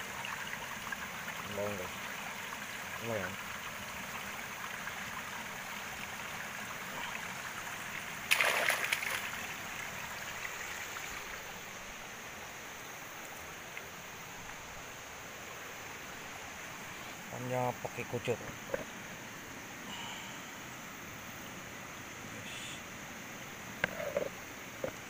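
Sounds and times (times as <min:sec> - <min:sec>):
river water flowing over rocks: 0:00.0 - 0:25.0.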